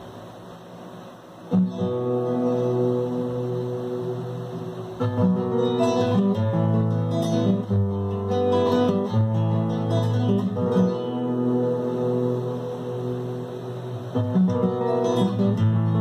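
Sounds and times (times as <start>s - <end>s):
fingerstyle classical guitar: 1.5s - 16.0s.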